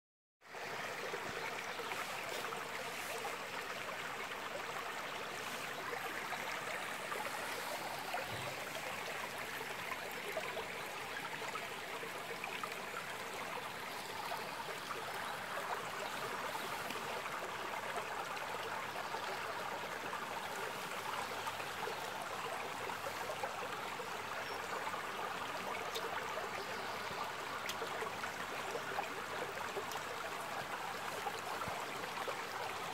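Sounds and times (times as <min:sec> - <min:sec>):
creek babbling over stones: 0:00.4 - 0:32.9.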